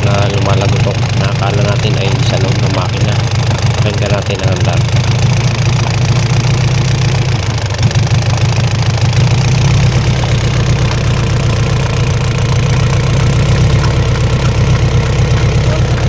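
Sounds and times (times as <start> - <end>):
diesel engine idling with knocking: 0.0 - 16.0.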